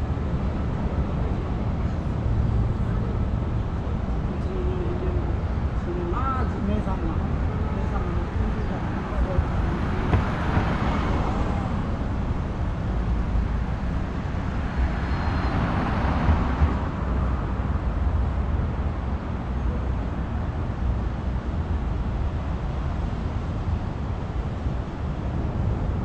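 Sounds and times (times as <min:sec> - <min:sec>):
city street traffic rumble: 0:00.0 - 0:26.0.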